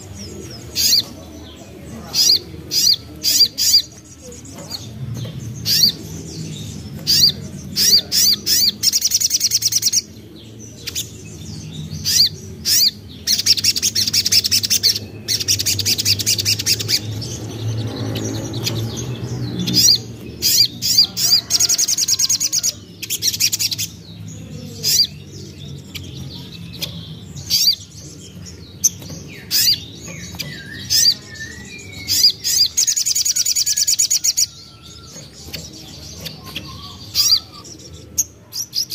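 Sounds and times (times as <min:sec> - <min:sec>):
bird chips and trills: 0:00.0 - 0:38.9.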